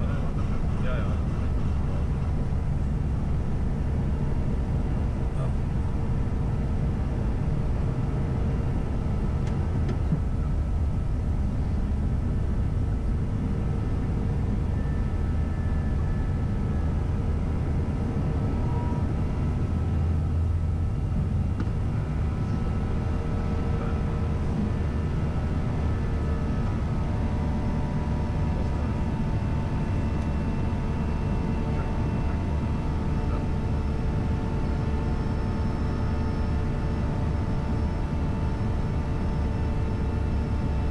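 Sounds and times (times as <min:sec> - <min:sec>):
faint whining tones: 0:00.0 - 0:40.9
jet engines rumbling: 0:00.0 - 0:40.9.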